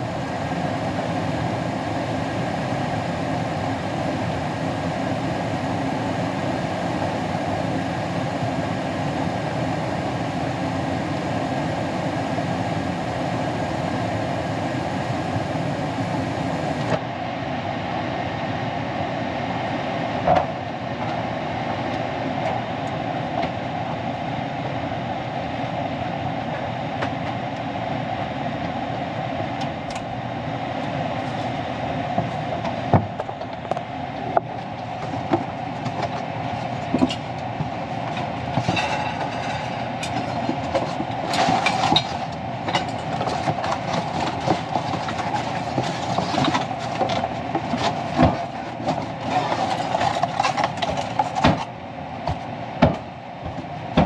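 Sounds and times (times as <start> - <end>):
furnace humming: 0.0 - 54.0.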